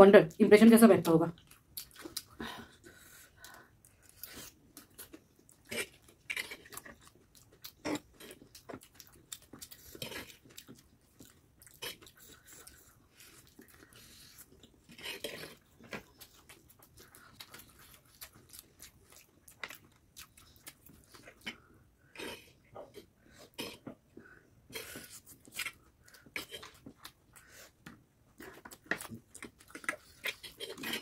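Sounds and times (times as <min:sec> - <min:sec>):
chewing and biting food: 0:01.4 - 0:31.0.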